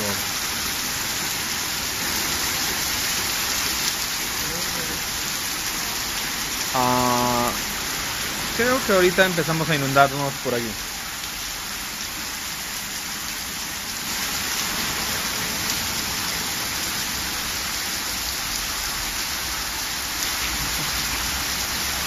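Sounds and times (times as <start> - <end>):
heavy rain on flooded asphalt: 0.0 - 22.0.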